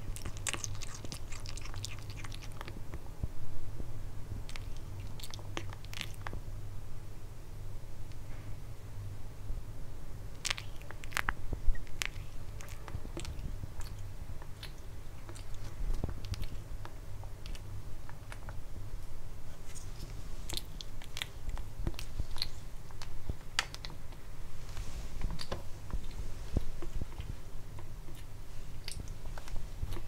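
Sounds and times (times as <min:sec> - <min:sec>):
kitten chewing and licking: 0:00.0 - 0:03.1, 0:04.4 - 0:06.4, 0:10.3 - 0:30.0.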